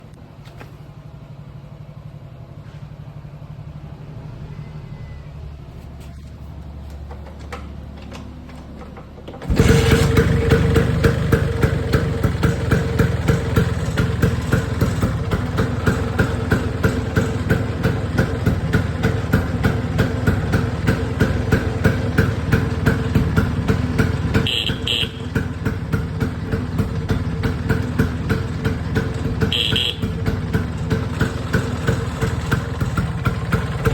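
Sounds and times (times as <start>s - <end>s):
scooter engine starting and idling: 0.0s - 33.9s.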